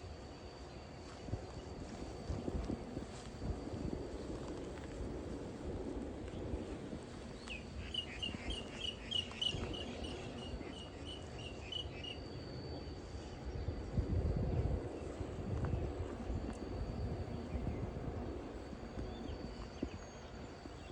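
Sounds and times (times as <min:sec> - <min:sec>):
high insect tone: 0:00.0 - 0:20.9.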